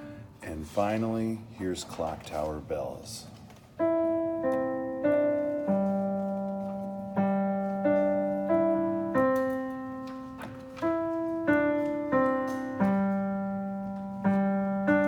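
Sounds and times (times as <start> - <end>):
slow piano melody: 0.0 - 0.6, 3.4 - 15.0.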